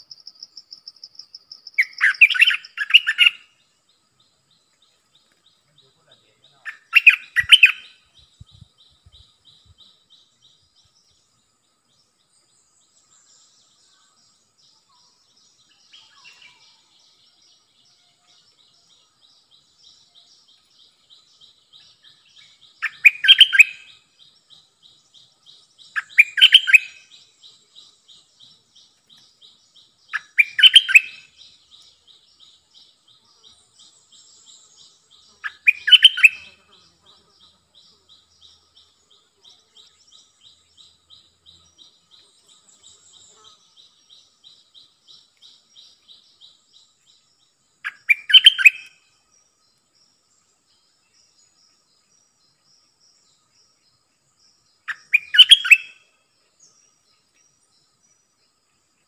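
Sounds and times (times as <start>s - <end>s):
bird song phrases: 0.0s - 59.0s.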